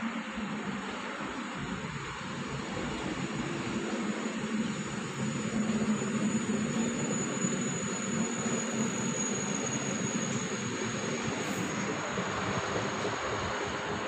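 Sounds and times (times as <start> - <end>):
train coaches rumbling over rails: 0.0 - 14.0.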